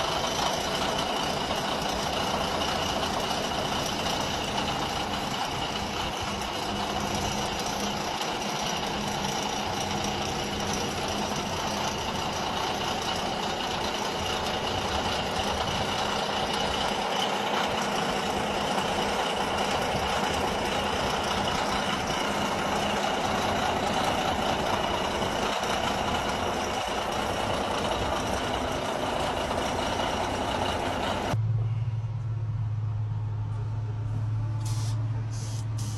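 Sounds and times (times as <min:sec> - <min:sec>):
bulldozer diesel engine running: 0:00.0 - 0:35.9.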